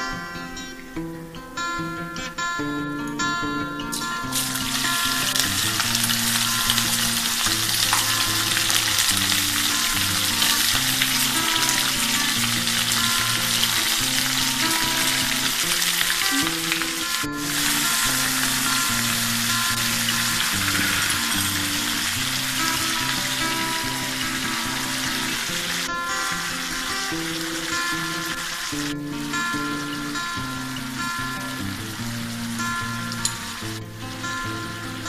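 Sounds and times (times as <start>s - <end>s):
meat sizzling in hot oil: 4.3s - 34.3s.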